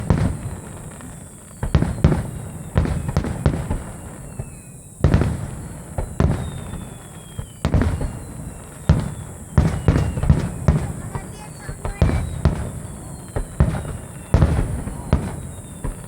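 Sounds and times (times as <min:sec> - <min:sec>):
firework shells booming: 0:00.0 - 0:16.0.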